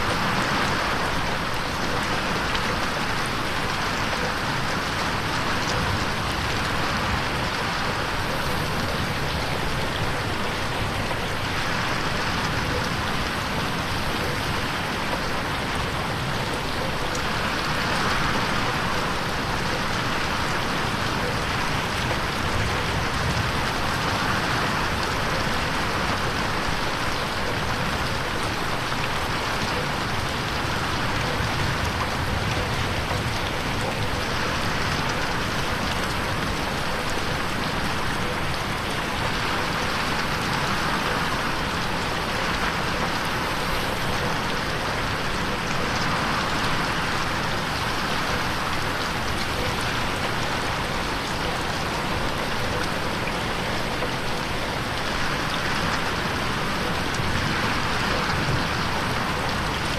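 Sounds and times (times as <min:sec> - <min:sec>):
rain pattering on window: 0:00.0 - 0:59.9.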